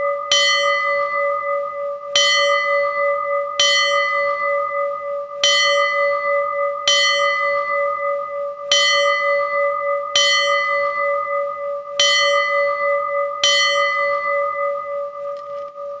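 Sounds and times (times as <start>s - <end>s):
temple bell ringing: 0.0s - 16.0s.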